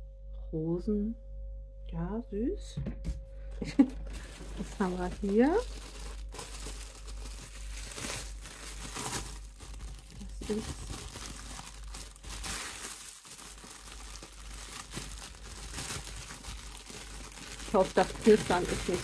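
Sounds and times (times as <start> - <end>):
plastic film crinkling: 3.7 - 19.0.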